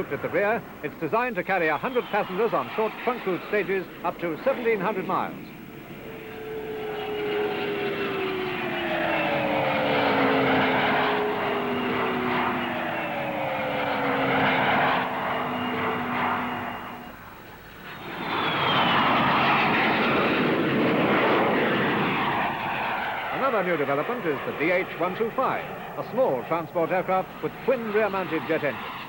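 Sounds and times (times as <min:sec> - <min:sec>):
jet airliner flypast: 0:00.0 - 0:29.0.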